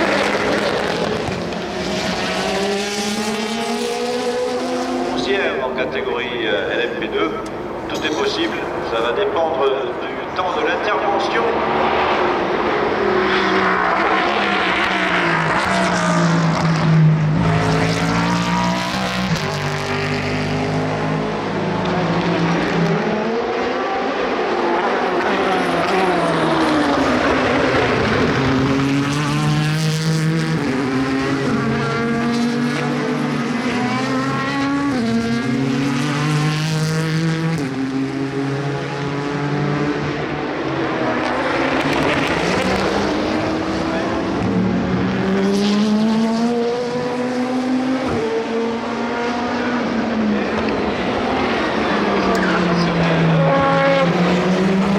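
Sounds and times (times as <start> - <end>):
race cars passing: 0.0 - 54.9.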